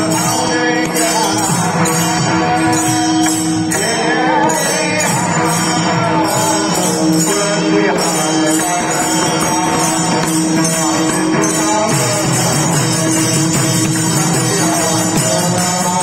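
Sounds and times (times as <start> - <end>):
jingling percussion: 0.0 - 16.0.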